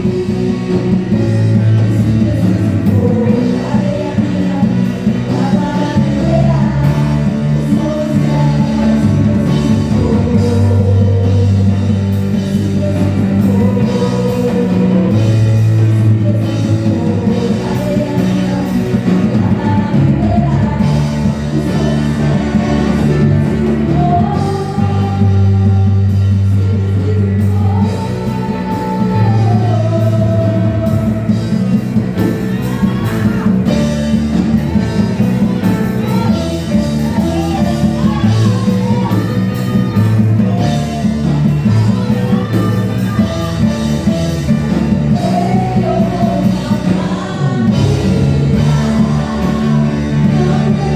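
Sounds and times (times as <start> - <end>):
person singing: 0.0 - 50.9
rock band playing: 0.0 - 50.9.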